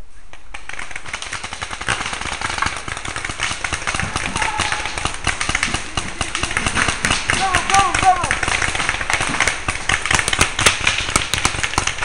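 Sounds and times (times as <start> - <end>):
paintball markers popping: 0.3 - 12.0.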